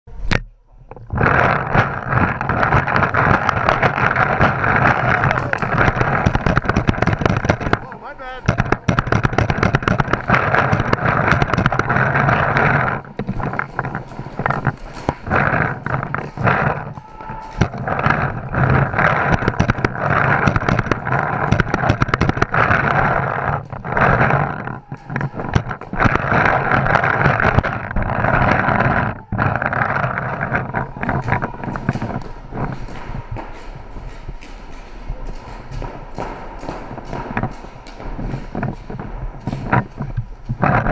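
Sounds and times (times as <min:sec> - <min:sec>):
steady rushing noise: 0:00.1 - 0:40.9
paintballs smacking inflatables: 0:00.2 - 0:40.9
continuous loud din: 0:00.3 - 0:40.9
paintball markers firing: 0:01.3 - 0:40.0.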